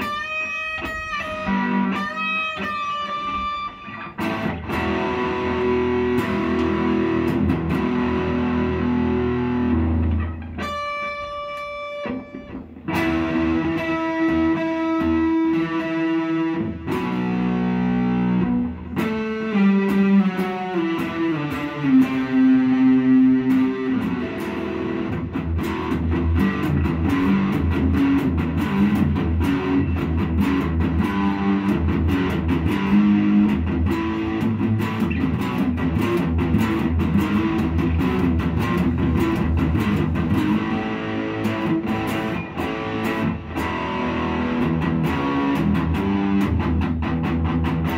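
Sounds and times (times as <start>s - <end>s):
electric guitar through amplifier: 0.0s - 47.9s.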